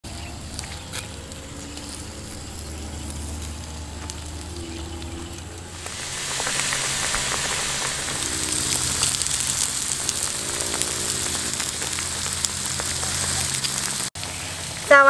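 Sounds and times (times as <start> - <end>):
broth bubbling: 0.0 - 14.9
meat sizzling on a grill: 0.0 - 15.0.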